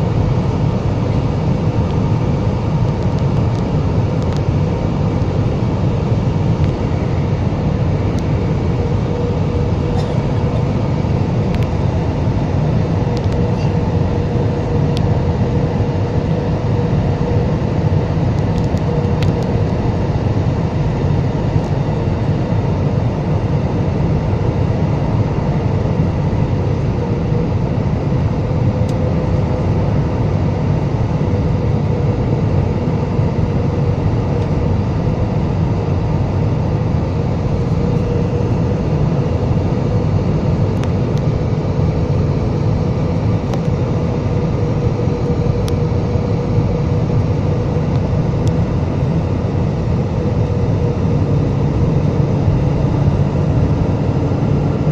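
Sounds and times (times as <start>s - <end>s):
jet engines rumbling: 0.0s - 54.9s
steady mid-pitched hum: 0.0s - 54.9s.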